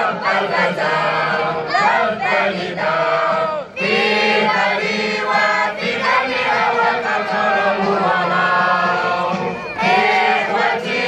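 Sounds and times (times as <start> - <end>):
men singing in unison: 0.0 - 11.0.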